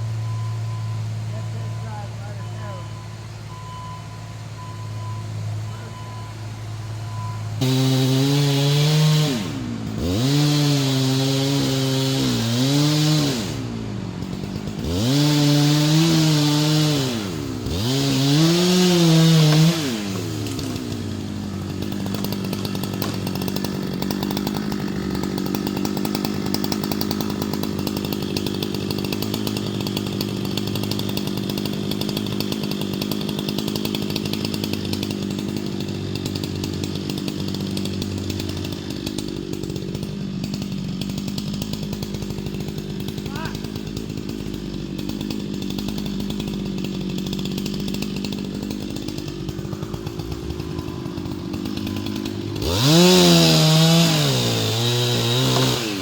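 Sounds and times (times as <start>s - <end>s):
chainsaw at full throttle: 0.0s - 4.0s, 5.0s - 56.0s.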